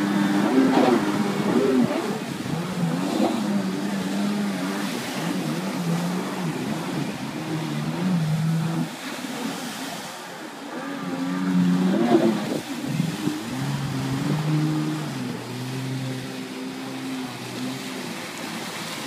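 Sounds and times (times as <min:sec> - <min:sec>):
jet ski engine running hard: 0:00.0 - 0:19.0
rush of spray: 0:00.0 - 0:19.0.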